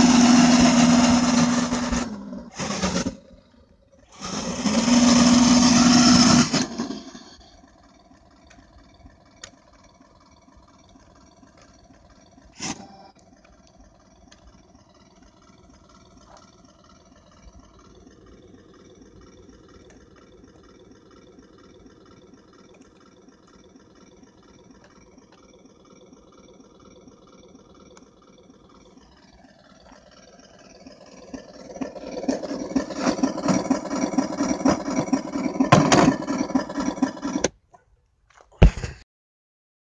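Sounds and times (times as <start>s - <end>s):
fast mechanical rhythm: 0.0s - 37.6s
toy tank engine hum: 0.0s - 38.0s.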